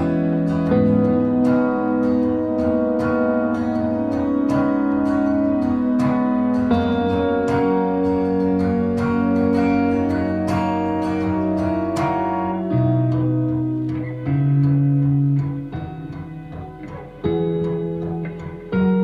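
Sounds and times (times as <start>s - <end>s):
held chords: 0.0s - 19.0s
plucked guitar-like string notes: 0.0s - 19.0s.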